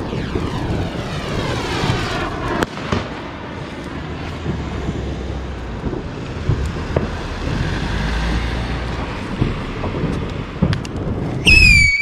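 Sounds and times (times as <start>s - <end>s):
sharp firework bangs: 0.0s - 3.4s, 4.3s - 12.0s
distant fireworks rumble: 0.0s - 12.0s
wind on microphone: 0.0s - 12.0s.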